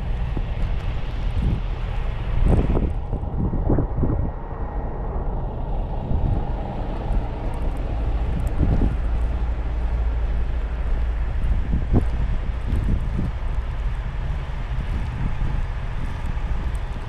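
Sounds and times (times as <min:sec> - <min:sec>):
low vehicle rumble: 0:00.0 - 0:17.0
wind buffeting microphone: 0:00.0 - 0:17.0.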